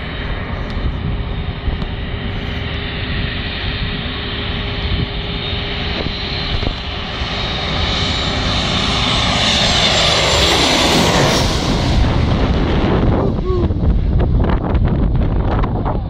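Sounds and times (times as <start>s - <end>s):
airliner engines on approach: 0.0s - 16.0s.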